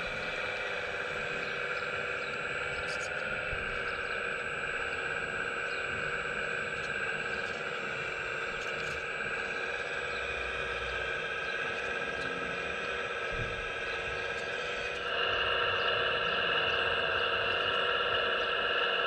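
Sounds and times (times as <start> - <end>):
electric hydraulic pump whine: 0.0 - 19.0.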